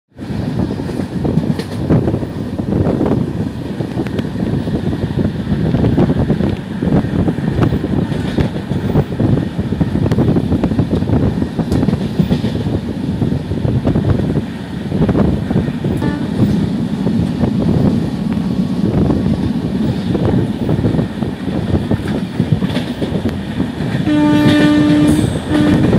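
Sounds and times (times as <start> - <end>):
train wheels rumbling on rails: 0.1 - 25.9.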